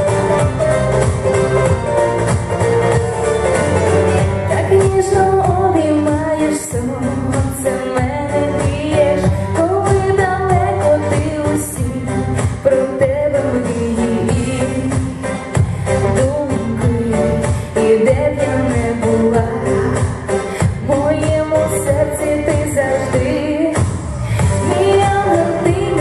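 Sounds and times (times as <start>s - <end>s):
instrumental accompaniment: 0.0s - 26.0s
woman singing pop song: 4.1s - 26.0s.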